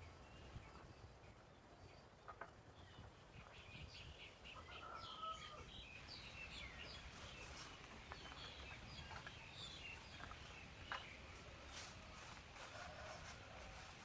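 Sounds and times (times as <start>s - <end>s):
faint bird chirps: 0.0s - 13.9s.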